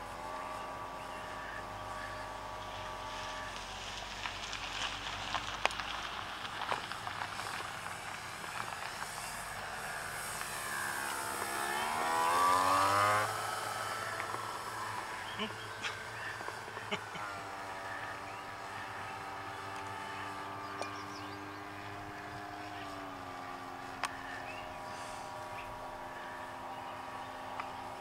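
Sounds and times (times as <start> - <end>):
model aircraft motor whine: 0.0 - 5.7, 6.3 - 28.0.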